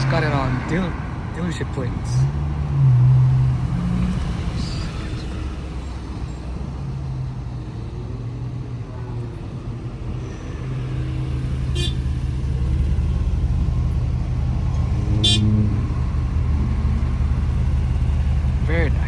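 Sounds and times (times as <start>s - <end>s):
car road rumble: 0.0s - 19.0s.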